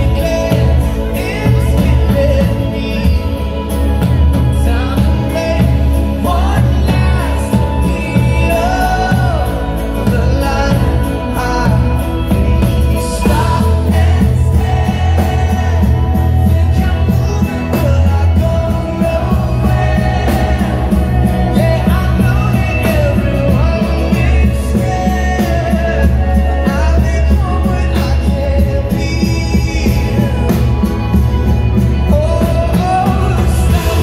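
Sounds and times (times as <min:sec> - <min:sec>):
live pop-rock band: 0:00.0 - 0:34.0
person singing: 0:00.0 - 0:34.0.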